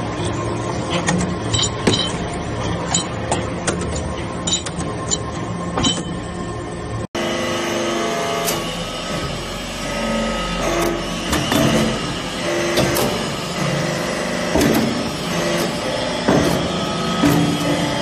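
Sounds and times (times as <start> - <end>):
hydraulic press drone: 0.0 - 18.0.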